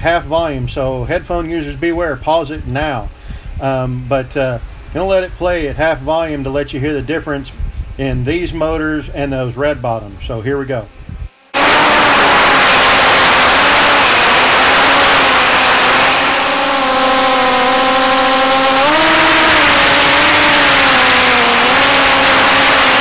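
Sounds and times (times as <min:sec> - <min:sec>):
wind hiss: 0:00.0 - 0:23.0
quadcopter motors buzzing whine: 0:01.7 - 0:23.0.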